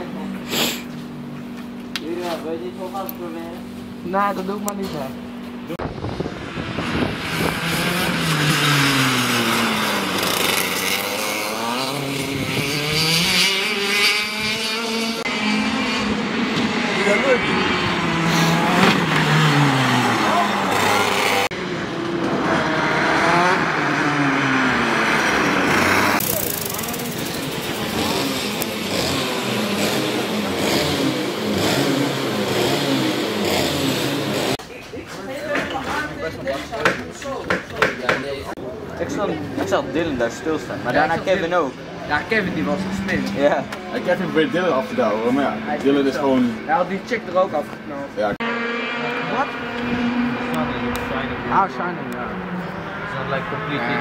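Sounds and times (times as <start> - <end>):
kart engine revving: 5.7 - 34.6, 38.9 - 54.0.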